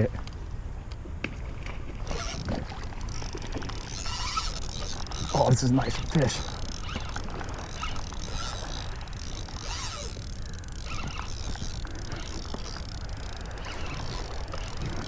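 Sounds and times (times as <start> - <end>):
fishing reel cranking: 2.0 - 15.0
faint clicks: 2.1 - 15.0.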